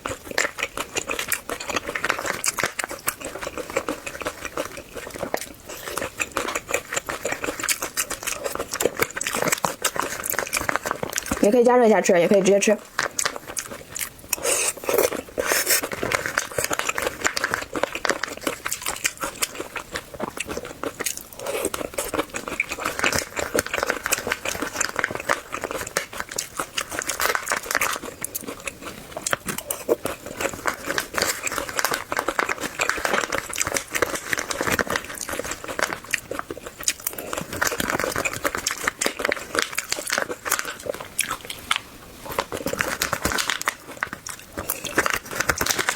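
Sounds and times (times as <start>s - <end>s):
person chewing corn: 0.0s - 11.6s, 12.3s - 45.9s.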